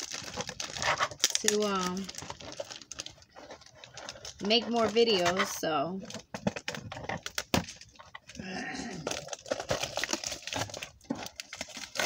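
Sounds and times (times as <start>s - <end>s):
cardboard box and packaging rustling: 0.0s - 12.0s.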